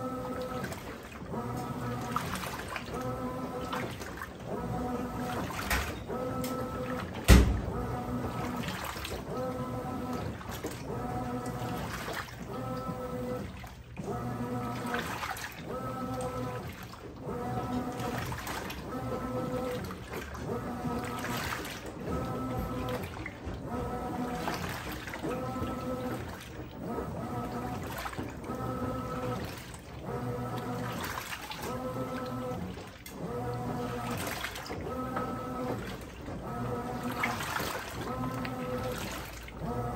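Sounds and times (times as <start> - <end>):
washing machine motor humming: 0.0 - 39.9
water sloshing and splashing: 0.0 - 39.9.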